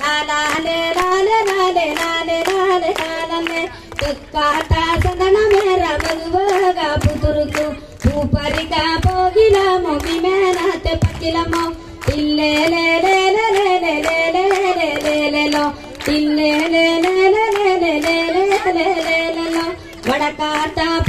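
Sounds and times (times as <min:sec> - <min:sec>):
audience clapping along: 0:00.0 - 0:21.0
woman singing unaccompanied: 0:00.0 - 0:21.0.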